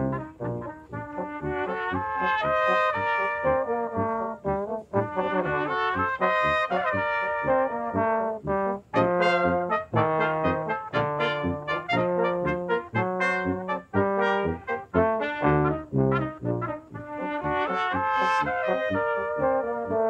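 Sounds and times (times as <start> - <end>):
brass quintet playing march: 0.0 - 20.0.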